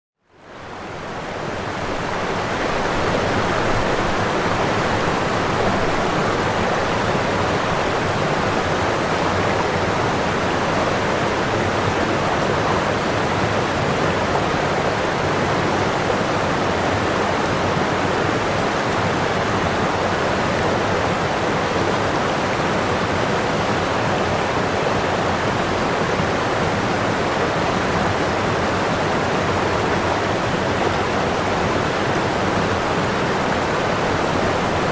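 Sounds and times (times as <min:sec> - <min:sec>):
waterfall rushing: 0:01.4 - 0:34.9.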